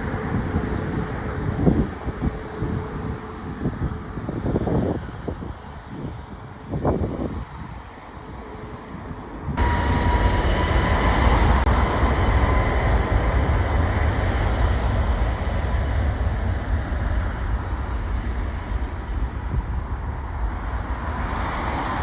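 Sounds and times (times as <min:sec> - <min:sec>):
jet engines at high power: 0:00.0 - 0:22.0.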